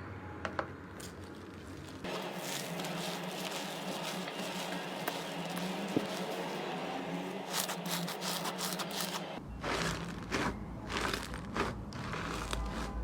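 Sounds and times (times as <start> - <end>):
crackly slime squelches: 1.0 - 13.0
slime scraping and squishing: 1.3 - 13.0.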